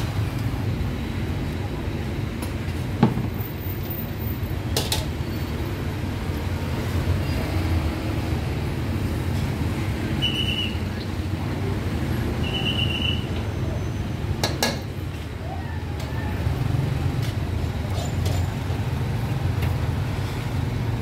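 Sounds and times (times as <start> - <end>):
busy street market noise: 0.0 - 21.0
low rumble of traffic: 0.0 - 21.0.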